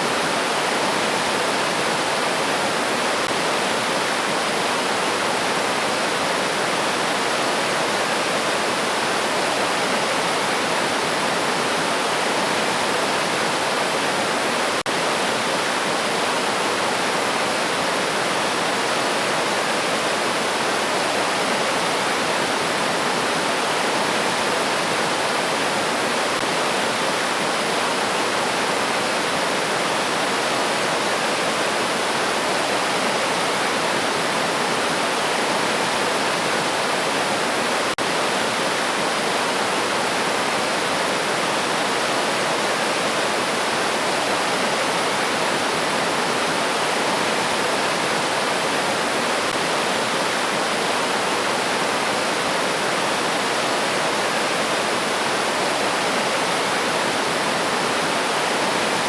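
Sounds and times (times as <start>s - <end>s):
river water rushing over stones: 0.0s - 59.0s.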